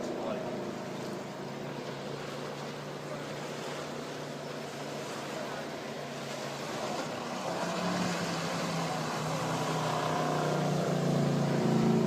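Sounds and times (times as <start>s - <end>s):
motorboat engine running: 0.0s - 12.0s
water splashing: 0.0s - 12.0s.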